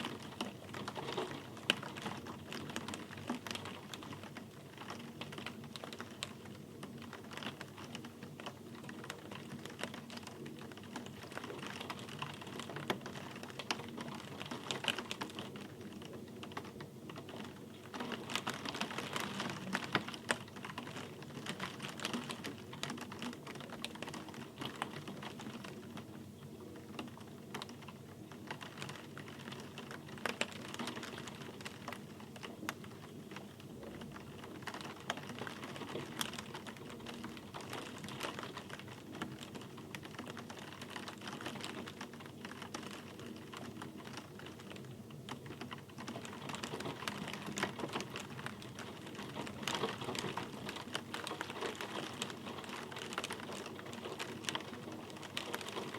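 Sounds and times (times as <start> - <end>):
rain drops pattering: 0.0 - 55.9.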